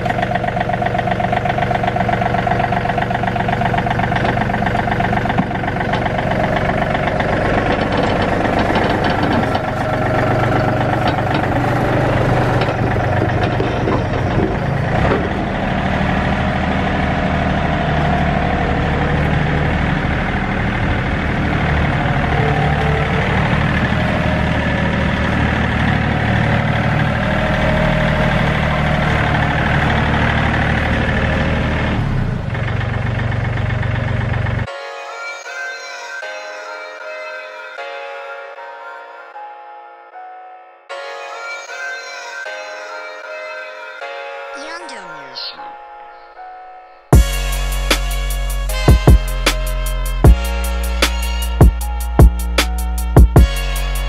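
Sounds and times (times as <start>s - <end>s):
diesel tractor engine running: 0.0s - 34.7s, 44.6s - 54.0s.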